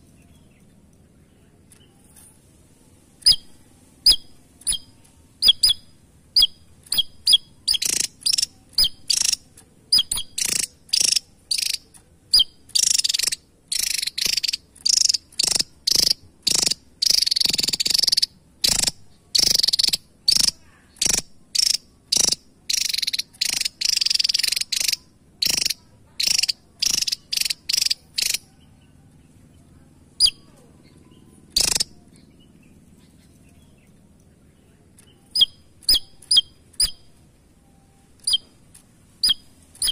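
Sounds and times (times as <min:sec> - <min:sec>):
bird twittering song: 0:00.0 - 0:02.4, 0:03.2 - 0:39.9.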